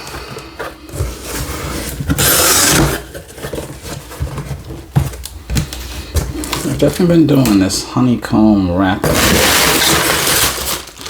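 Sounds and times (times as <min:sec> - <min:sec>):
paper wrapping rustling: 0:00.0 - 0:07.8, 0:09.0 - 0:11.0.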